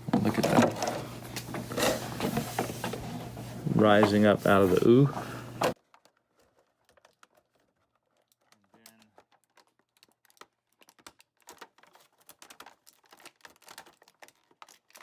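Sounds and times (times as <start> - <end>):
plastic packaging crinkling: 0.1 - 15.0.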